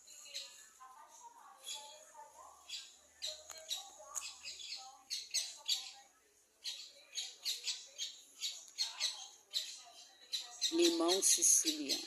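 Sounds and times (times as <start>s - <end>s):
small birds chirping: 0.0s - 0.7s, 1.4s - 12.0s.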